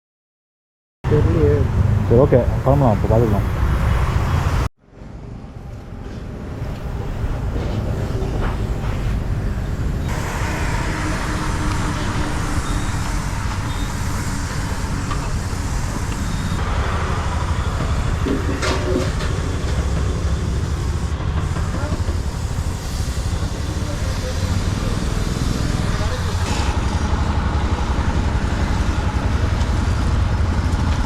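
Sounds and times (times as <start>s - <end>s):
wind and road noise: 1.1s - 31.0s.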